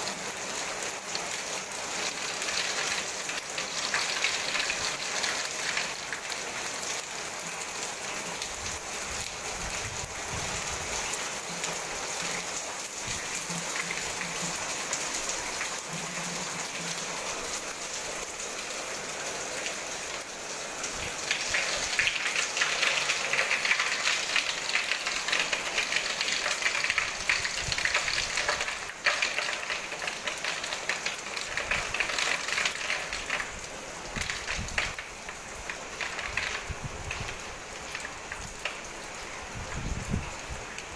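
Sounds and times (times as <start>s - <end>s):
hail and rain pelting down: 0.0s - 40.9s.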